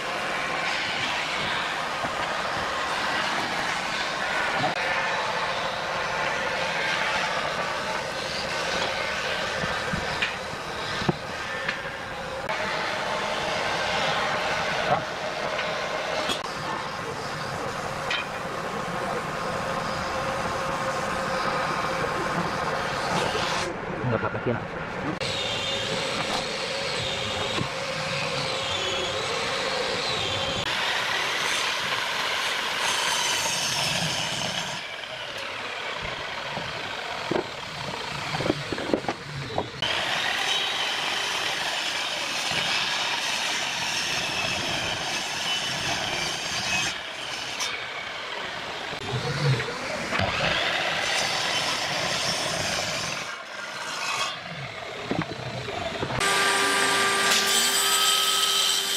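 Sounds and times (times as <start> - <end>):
electric saw cutting wood: 0.0 - 23.8, 25.2 - 58.9.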